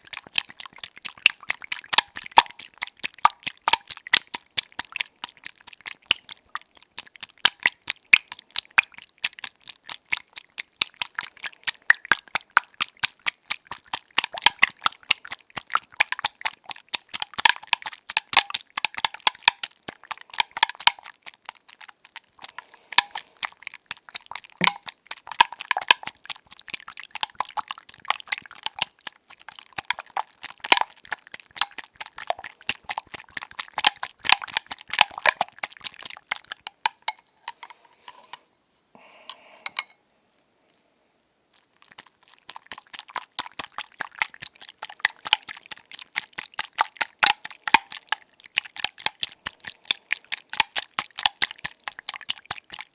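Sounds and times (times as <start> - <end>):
eggs beaten in a bowl: 0.0 - 40.0, 41.6 - 52.9.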